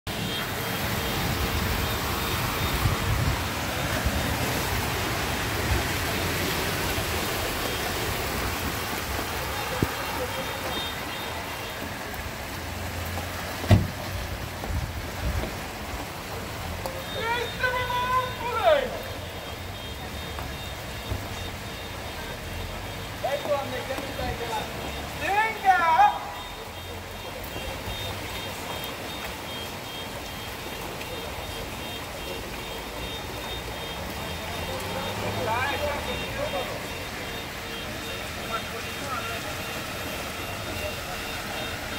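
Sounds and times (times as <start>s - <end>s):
heavy rain downpour: 0.0s - 41.9s
running flood water: 0.0s - 41.9s.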